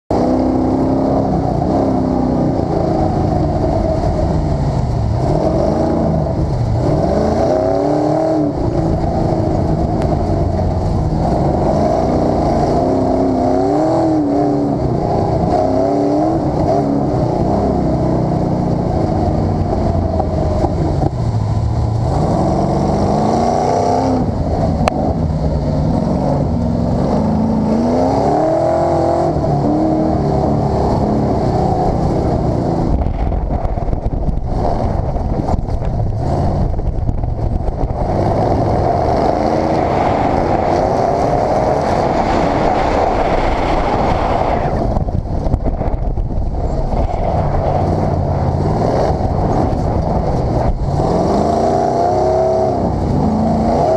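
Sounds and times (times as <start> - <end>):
sand rail engine revving: 0.1 - 53.9.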